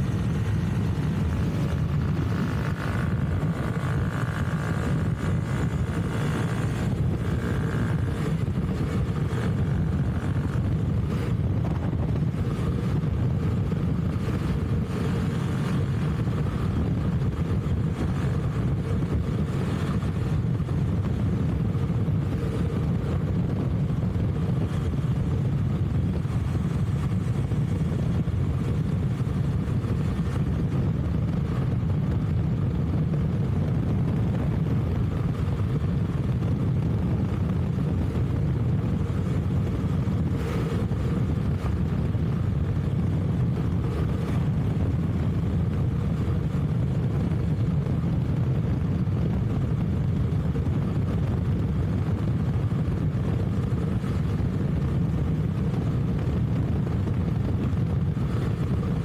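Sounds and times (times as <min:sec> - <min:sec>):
motorcycle engine cruising: 0:00.0 - 0:59.0
wind rushing over microphone: 0:00.0 - 0:59.0.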